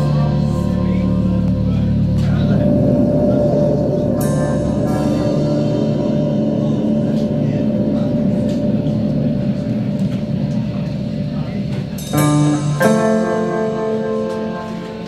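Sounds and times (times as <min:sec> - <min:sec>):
metal band droning: 0:00.0 - 0:15.0
soft cymbal strokes: 0:00.0 - 0:15.0.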